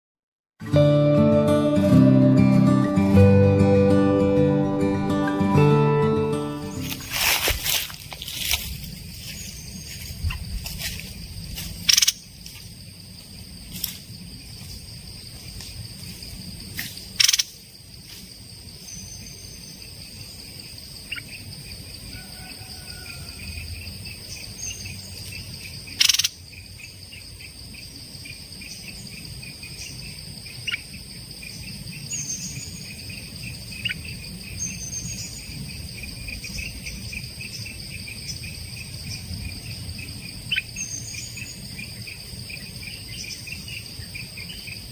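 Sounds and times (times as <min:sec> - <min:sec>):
insects droning: 0:00.7 - 0:44.9
pulsing cricket-like trill: 0:00.7 - 0:44.9.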